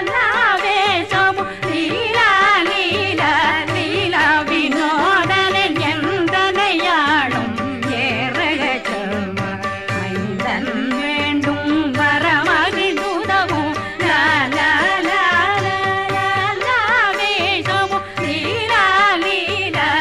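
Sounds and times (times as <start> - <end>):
ornamented devotional melody: 0.0 - 20.0.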